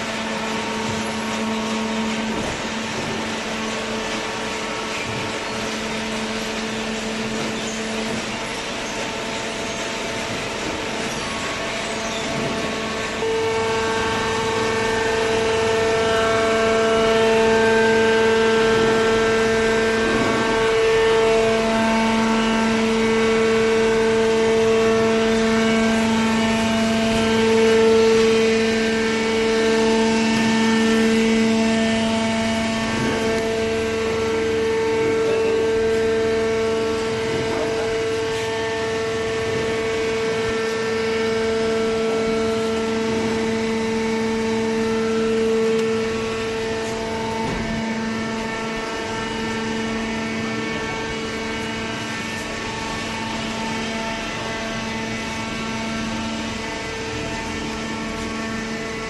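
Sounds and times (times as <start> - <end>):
motor and pump humming: 0.0 - 59.0.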